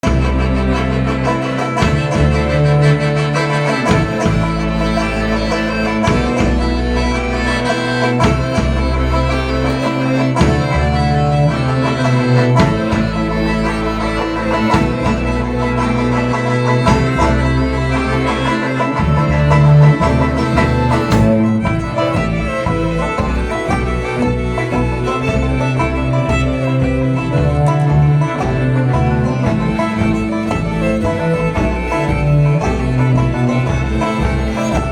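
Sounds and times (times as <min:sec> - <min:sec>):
bass line: 0:00.0 - 0:34.9
string instruments: 0:00.0 - 0:34.9.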